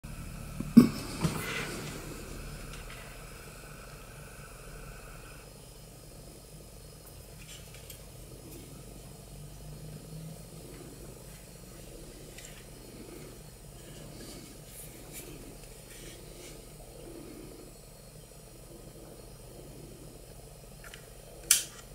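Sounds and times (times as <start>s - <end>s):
fan motor purring: 0.0s - 21.9s.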